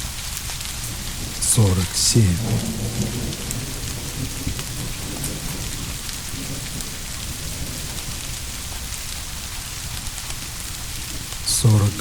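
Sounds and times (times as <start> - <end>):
heavy rain: 0.0 - 12.0
distant thunder rumble: 0.9 - 12.0.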